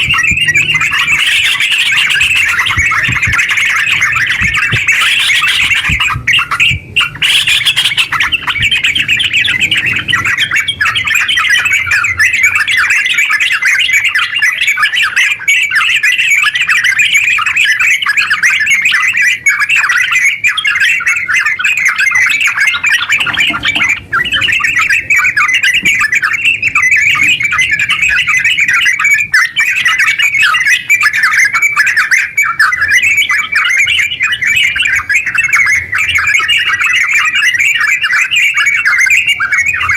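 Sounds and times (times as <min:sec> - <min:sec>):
bird rapid chattering song: 0:00.0 - 0:39.9.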